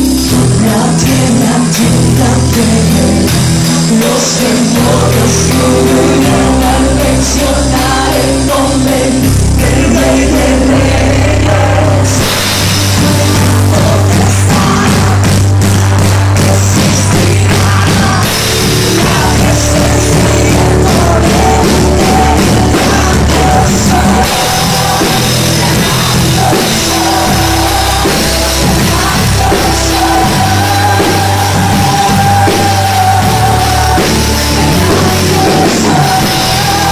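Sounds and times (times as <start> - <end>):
drums and heavy bass accompaniment: 0.0 - 36.9
woman singing into a microphone: 0.3 - 36.9.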